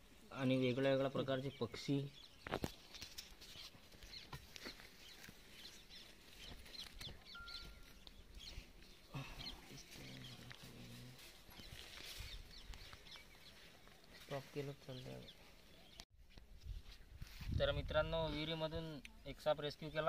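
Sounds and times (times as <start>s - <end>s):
small birds chirping: 0.0s - 16.1s.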